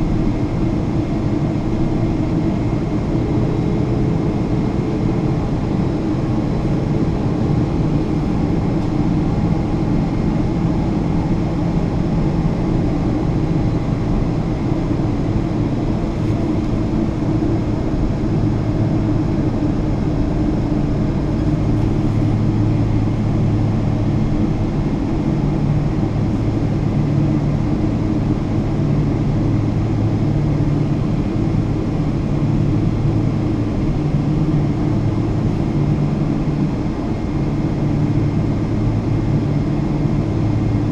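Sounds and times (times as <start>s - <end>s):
jet airliner engine drone: 0.0s - 40.9s.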